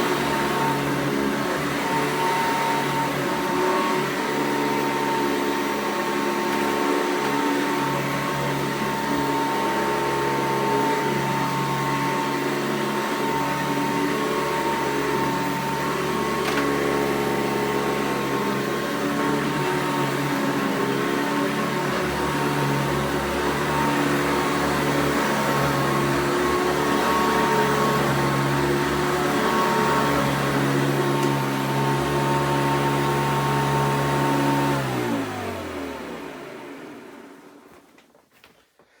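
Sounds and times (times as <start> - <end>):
vacuum cleaner running on carpet: 0.0 - 37.8.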